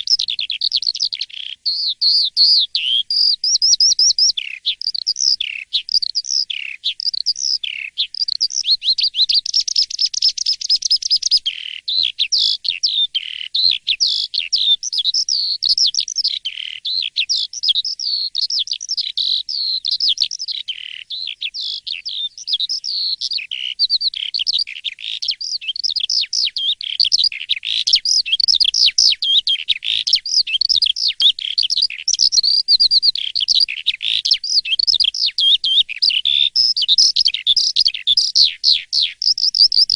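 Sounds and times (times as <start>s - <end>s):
starling singing whistled notes: 0.0s - 39.9s.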